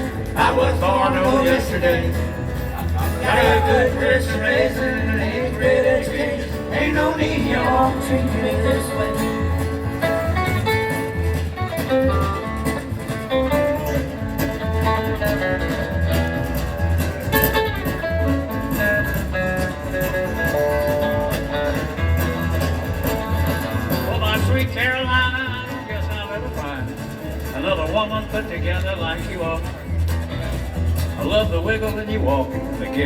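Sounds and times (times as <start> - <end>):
plucked guitar melody: 0.0 - 33.0
pulsing bass line: 0.0 - 33.0.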